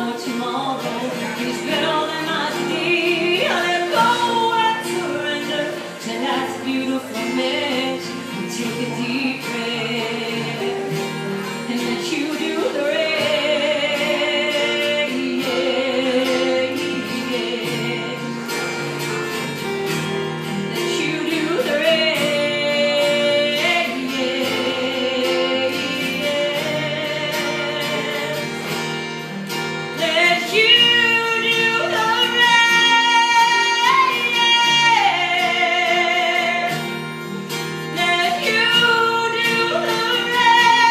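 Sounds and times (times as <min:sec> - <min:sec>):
acoustic guitars strumming: 0:00.0 - 0:40.9
woman singing: 0:00.0 - 0:40.9.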